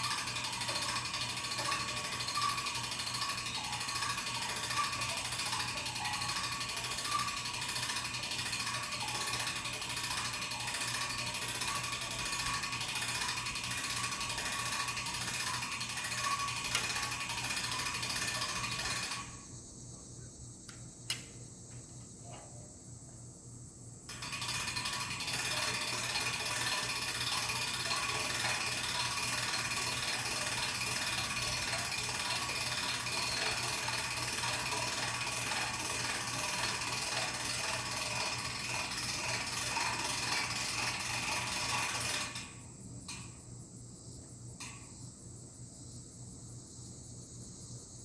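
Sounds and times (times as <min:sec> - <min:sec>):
ratchet clicking: 0:00.0 - 0:19.4, 0:24.1 - 0:43.4.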